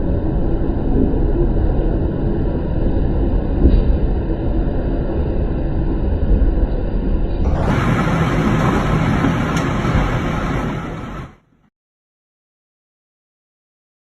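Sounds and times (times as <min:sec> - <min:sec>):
storm wind buffeting microphone: 0:00.0 - 0:11.4.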